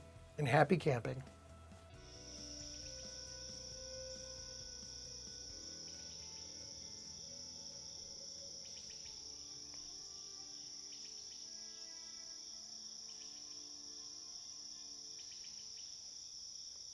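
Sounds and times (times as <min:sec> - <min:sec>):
soft music notes: 0:00.0 - 0:14.9
insects chirring: 0:02.0 - 0:16.9.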